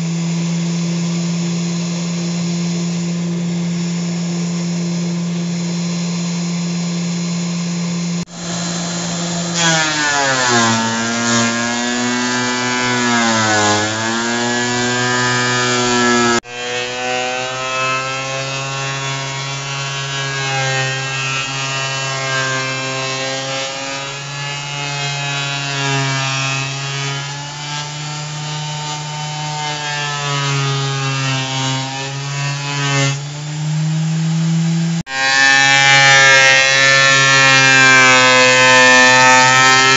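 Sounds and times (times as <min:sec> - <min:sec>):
thickness planer motor whine: 0:00.0 - 0:39.9.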